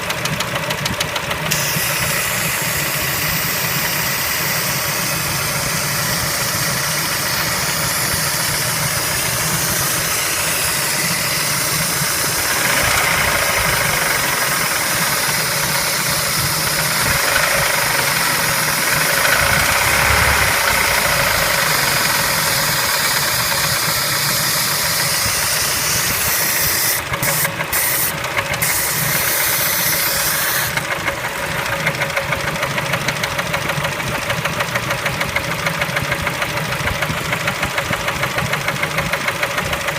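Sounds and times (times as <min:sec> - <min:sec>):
car engine running with a knock: 0:00.0 - 0:39.9.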